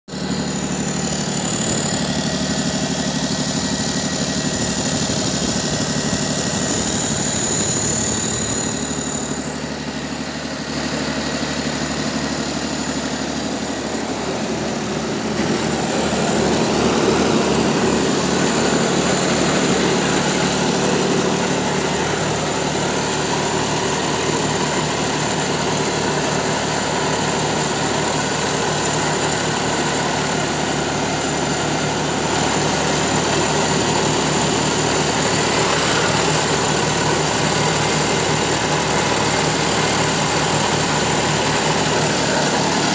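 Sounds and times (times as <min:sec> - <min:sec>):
diesel generator running: 0:00.1 - 0:42.9.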